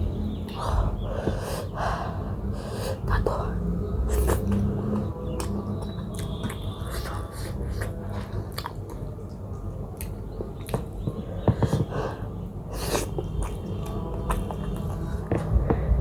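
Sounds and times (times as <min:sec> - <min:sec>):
close chewing of dumplings: 0:00.0 - 0:16.0.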